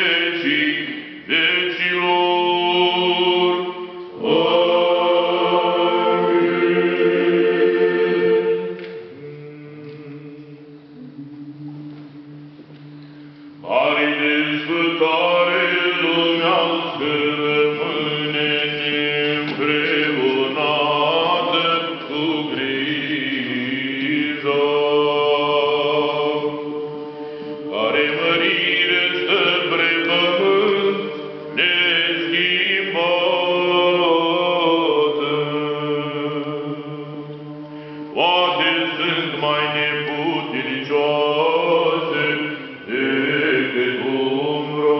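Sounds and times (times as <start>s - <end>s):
voices singing a chant: 0.0s - 44.9s.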